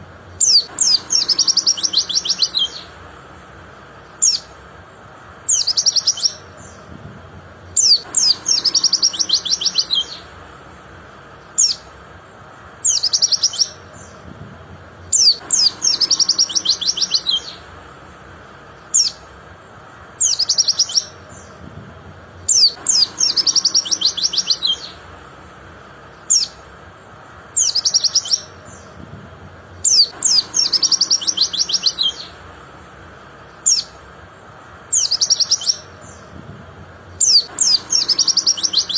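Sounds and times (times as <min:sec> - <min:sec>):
bird twittering and chirping: 0:00.2 - 0:38.9.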